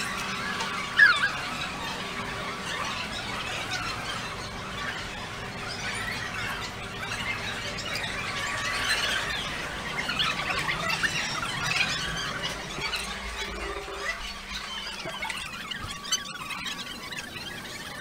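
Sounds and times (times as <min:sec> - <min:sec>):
animals squealing and chirping: 0:00.0 - 0:18.0.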